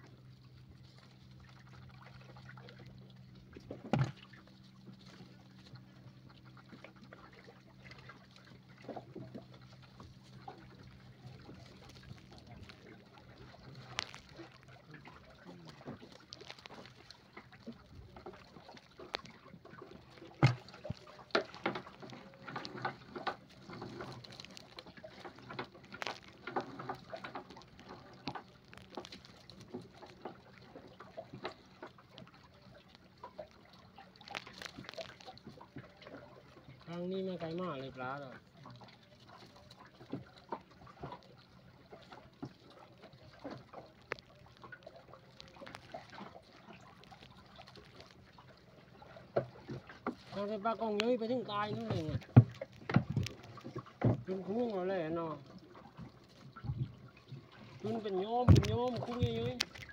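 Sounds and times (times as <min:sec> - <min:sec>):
water dripping: 0:00.3 - 0:59.9
wet net rustling: 0:03.4 - 0:59.9.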